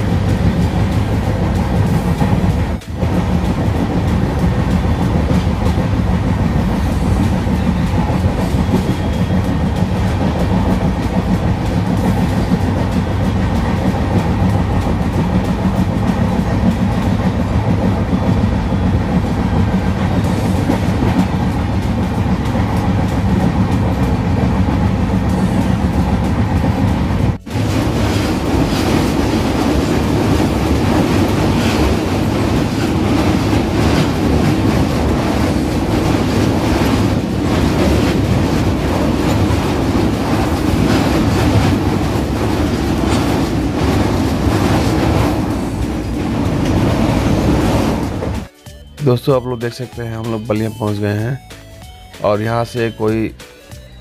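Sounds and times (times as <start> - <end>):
train wheels rumbling on rails: 0.0 - 48.5.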